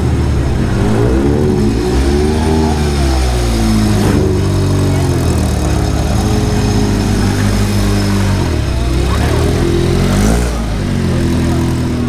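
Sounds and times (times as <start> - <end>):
buggy engines revving: 0.0 - 12.0.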